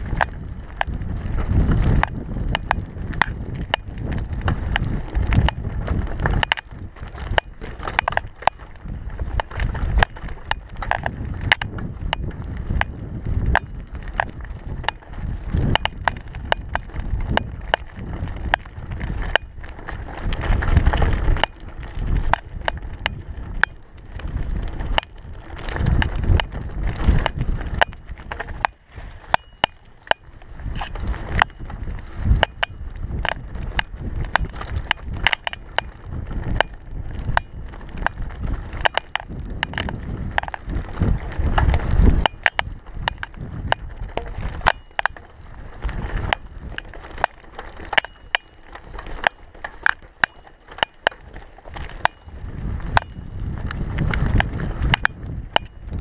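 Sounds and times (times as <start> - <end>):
bike rattling and clacking: 0.0 - 56.0
tyres rumbling on dirt trail: 0.0 - 56.0.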